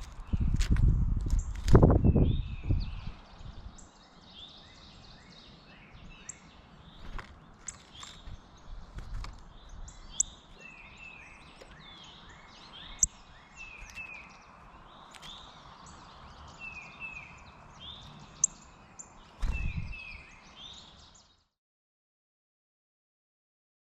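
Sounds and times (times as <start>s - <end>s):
songbirds whistling: 1.4s - 21.4s.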